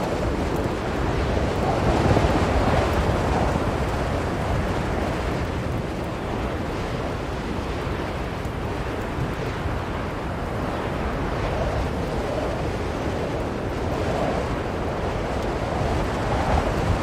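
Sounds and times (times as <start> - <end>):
blizzard wind blowing: 0.0 - 17.0.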